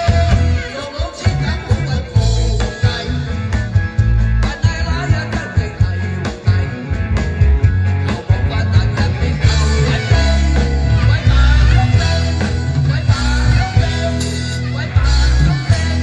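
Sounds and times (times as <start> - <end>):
drum kit beat: 0.0 - 16.0
rock band playing: 0.0 - 16.0.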